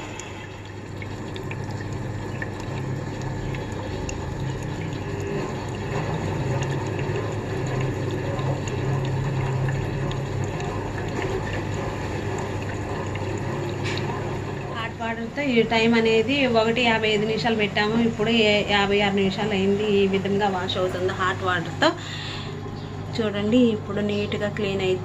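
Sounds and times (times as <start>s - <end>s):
low motor hum: 0.0s - 25.0s
water sloshing in drum: 0.0s - 25.0s.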